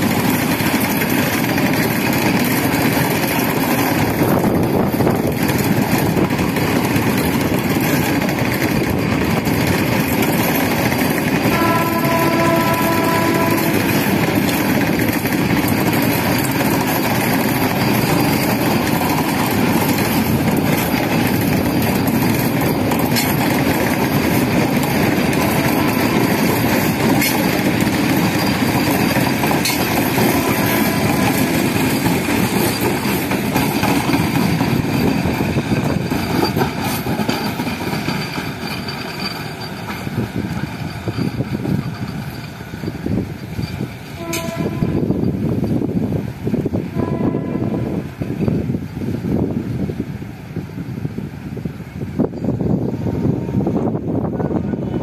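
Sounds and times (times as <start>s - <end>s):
sharp clicks of train wheels: 0.0s - 54.8s
train wheels rumbling on rail: 0.0s - 55.0s.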